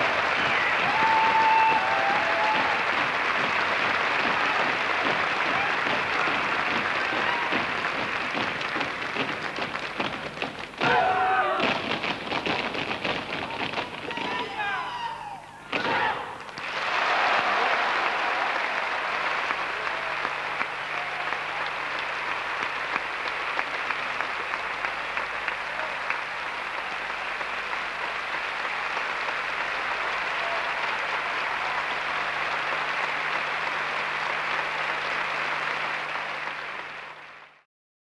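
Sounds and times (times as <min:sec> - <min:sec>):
audience applauding: 0:00.0 - 0:15.4, 0:16.3 - 0:37.6.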